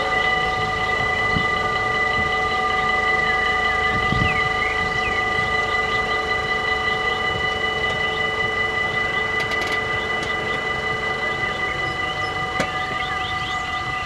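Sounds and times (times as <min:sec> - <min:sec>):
birds chirping: 0:00.0 - 0:14.0
level crossing warning bells: 0:00.0 - 0:14.0.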